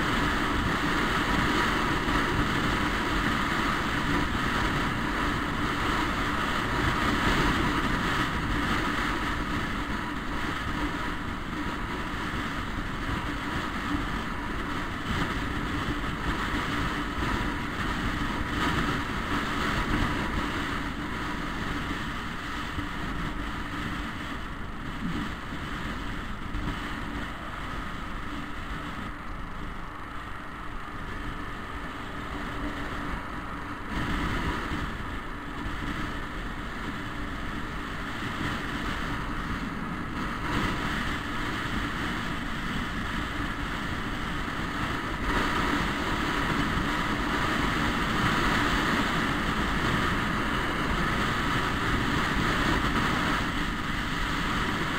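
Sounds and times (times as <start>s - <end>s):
scooter engine running: 0.0s - 54.9s
wind rushing over microphone: 0.0s - 54.9s.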